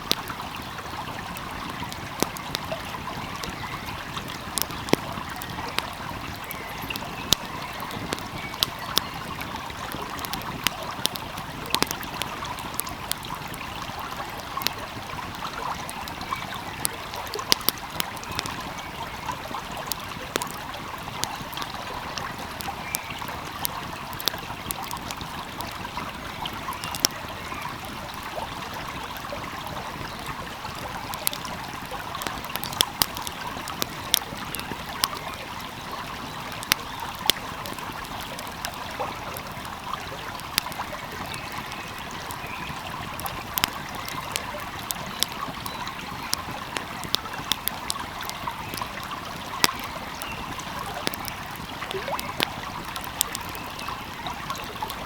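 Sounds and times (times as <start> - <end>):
flowing stream: 0.0 - 55.0
wood fire crackling: 0.0 - 55.0.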